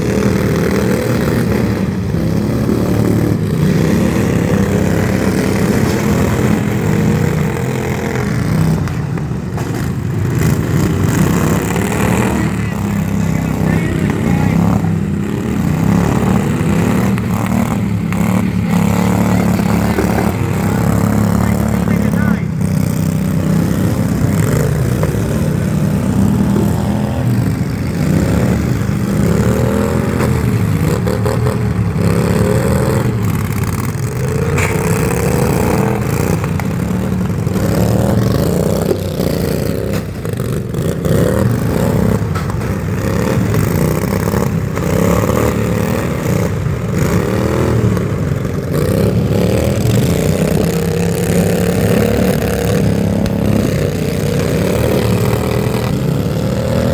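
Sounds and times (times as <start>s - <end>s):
engine revving: 0.0s - 56.9s.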